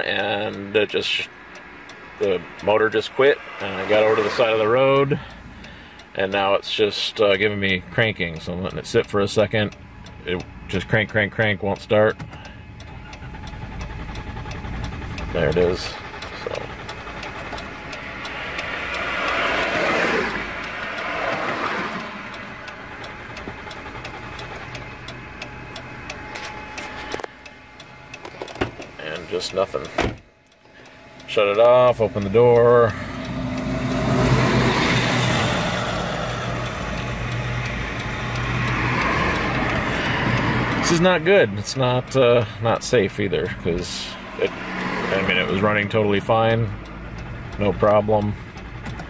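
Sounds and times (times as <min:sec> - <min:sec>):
hazard flasher ticking: 0:00.0 - 0:49.0
road traffic passing: 0:00.0 - 0:49.0.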